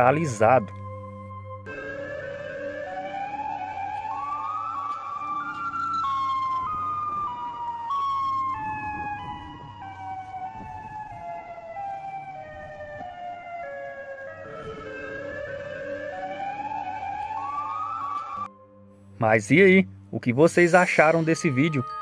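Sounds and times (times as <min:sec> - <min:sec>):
eerie wavering siren-like wail: 0:00.0 - 0:18.9.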